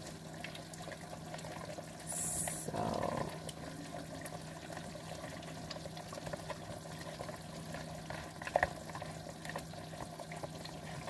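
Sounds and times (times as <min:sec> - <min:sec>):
stew simmering: 0:00.0 - 0:11.0.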